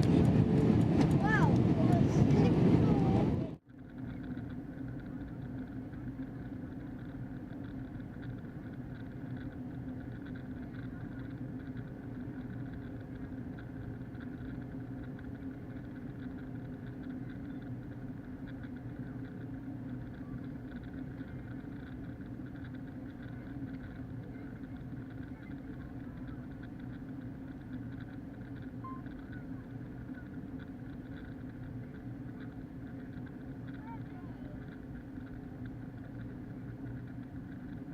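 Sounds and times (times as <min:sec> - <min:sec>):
airplane cabin engine drone: 0:00.0 - 0:37.9.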